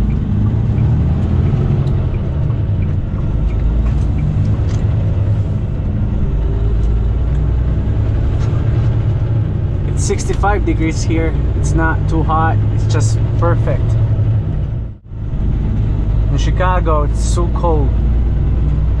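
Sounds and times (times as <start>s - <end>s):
diesel truck engine rumbling: 0.0s - 19.0s.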